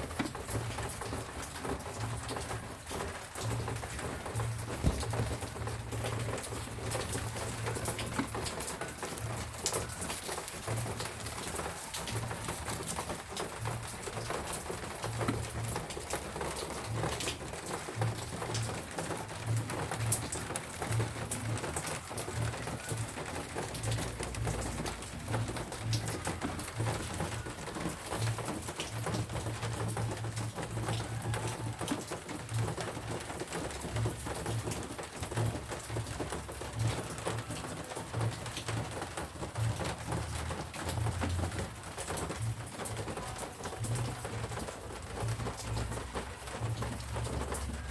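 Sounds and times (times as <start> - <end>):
rain pattering on leaves: 0.0 - 47.9.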